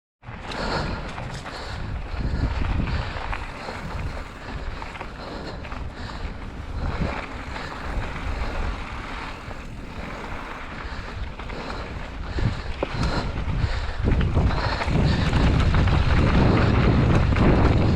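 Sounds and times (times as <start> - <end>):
bike tyres rumbling on rough ground: 0.2 - 17.9
wind noise on microphone: 0.3 - 17.9.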